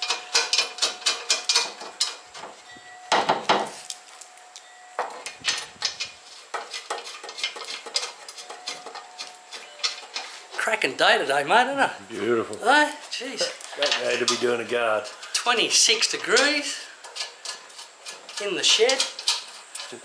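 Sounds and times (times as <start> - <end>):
metal bolts clicking and clinking: 0.0 - 10.7, 13.3 - 20.0.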